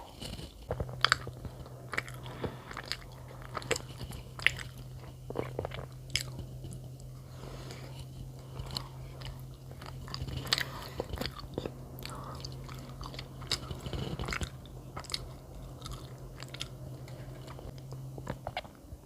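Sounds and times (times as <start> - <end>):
chewing bread: 0.0 - 18.9
low steady hum: 0.0 - 19.0.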